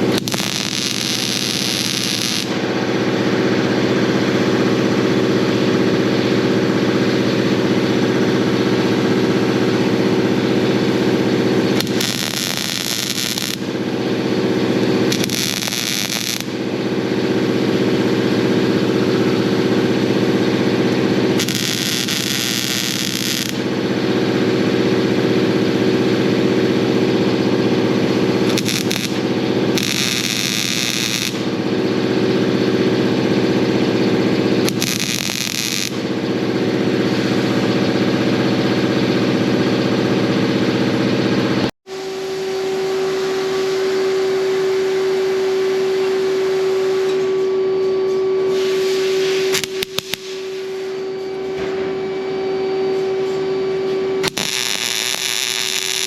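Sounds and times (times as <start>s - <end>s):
single-pitched machine whine: 0.0s - 56.0s
workshop machinery humming: 0.0s - 56.0s.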